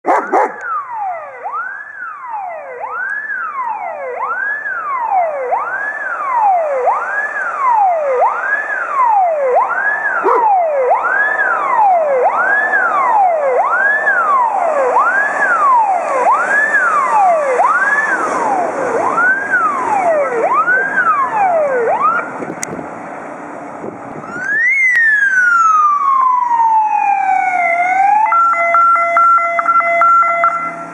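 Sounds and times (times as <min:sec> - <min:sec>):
fire engine siren wailing: 0:00.1 - 0:30.9.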